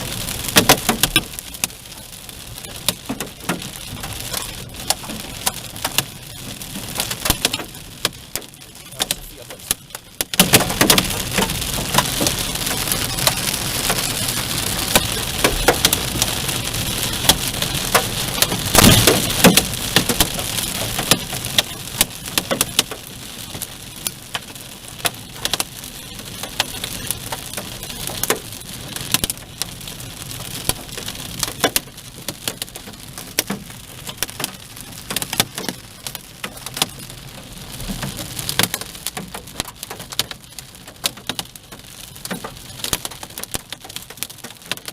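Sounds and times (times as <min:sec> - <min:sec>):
hailstones clattering: 0:00.0 - 0:44.9
heavy rain: 0:00.0 - 0:44.9.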